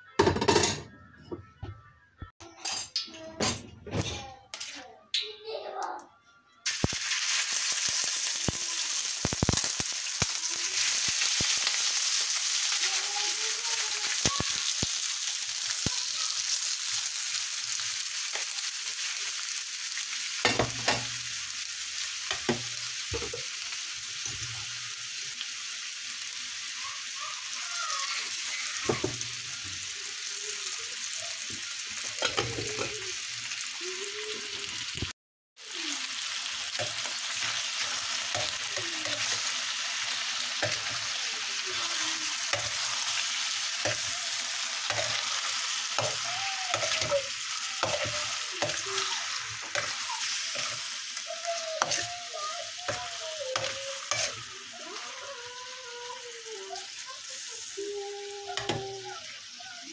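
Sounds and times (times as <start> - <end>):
meat sizzling in a pan: 6.7 - 59.9.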